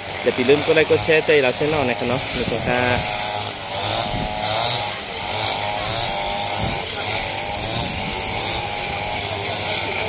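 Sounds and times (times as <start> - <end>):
brush cutters cutting grass: 0.0 - 10.0.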